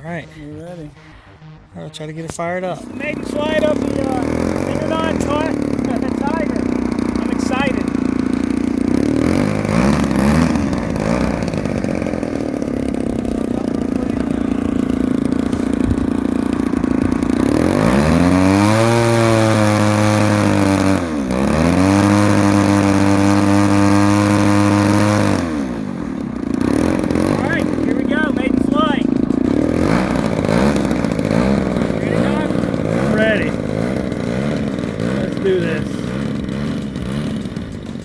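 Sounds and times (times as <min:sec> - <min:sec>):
model airplane engine running: 0:00.0 - 0:38.0.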